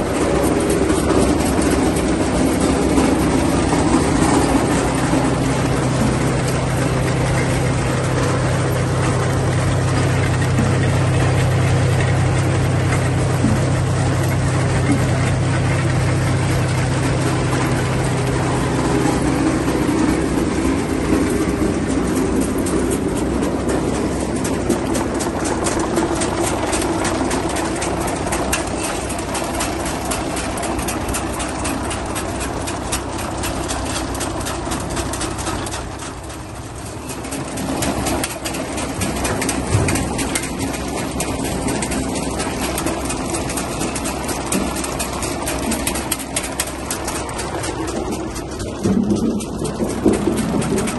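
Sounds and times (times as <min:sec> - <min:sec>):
harvester mechanism rattling: 0:00.0 - 0:50.9
tractor engine hum: 0:00.0 - 0:50.9.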